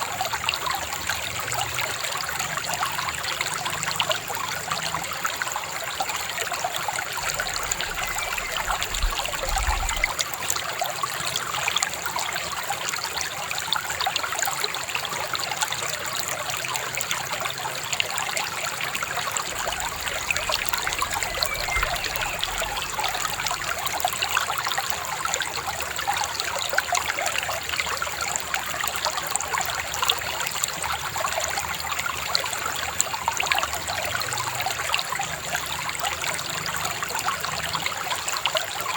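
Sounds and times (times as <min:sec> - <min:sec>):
river babbling over stones: 0:00.0 - 0:38.9.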